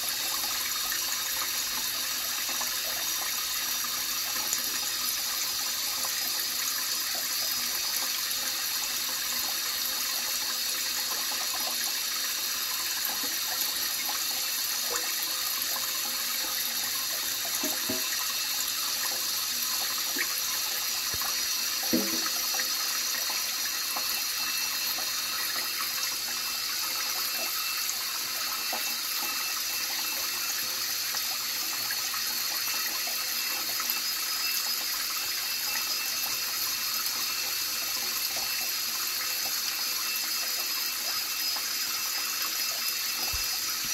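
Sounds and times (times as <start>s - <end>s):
tap running into a sink: 0.0s - 43.9s.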